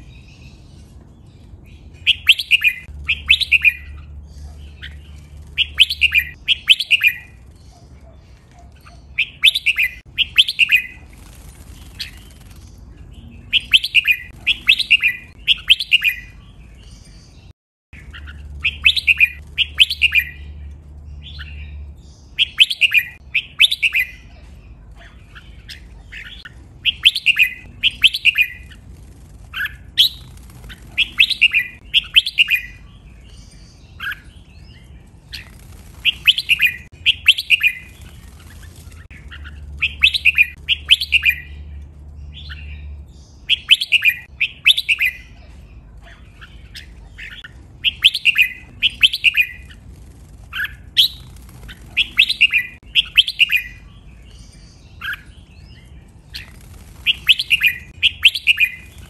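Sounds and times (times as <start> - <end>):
bird singing clear notes: 0.0 - 11.0, 13.0 - 28.8, 29.6 - 49.8, 50.5 - 59.0.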